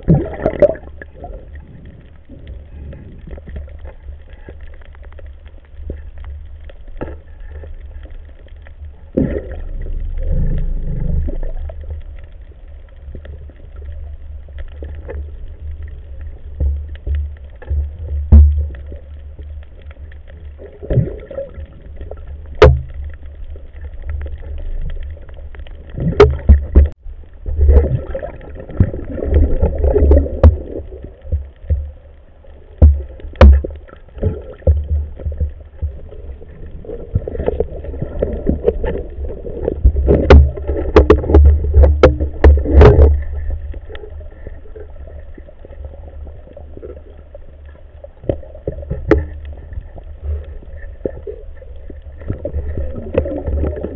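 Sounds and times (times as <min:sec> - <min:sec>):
underwater rumble of moving water: 0:00.0 - 0:53.9.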